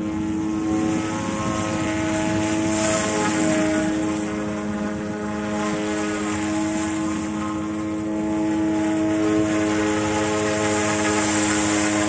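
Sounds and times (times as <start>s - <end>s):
rotor blades buzzing: 0.0s - 12.0s
toy helicopter motor whine: 0.0s - 12.0s.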